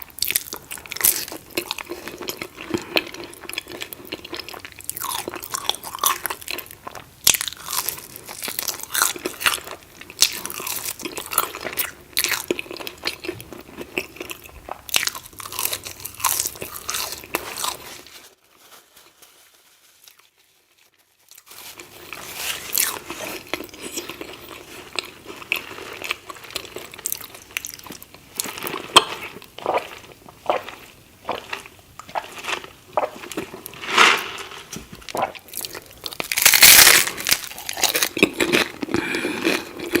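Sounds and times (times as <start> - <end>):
crunchy food being chewed: 0.0 - 18.2, 20.0 - 40.0.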